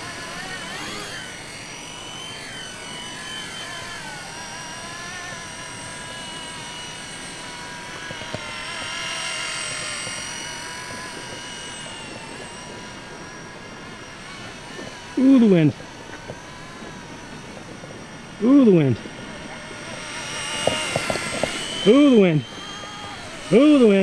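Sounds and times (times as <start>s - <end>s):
toy helicopter motor whining: 0.0s - 24.0s.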